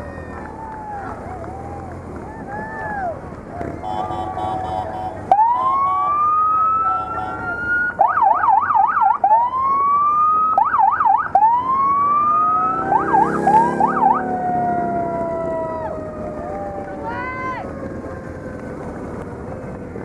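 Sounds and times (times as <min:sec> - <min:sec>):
motorcycle sirens wailing and yelping: 0:00.0 - 0:20.0.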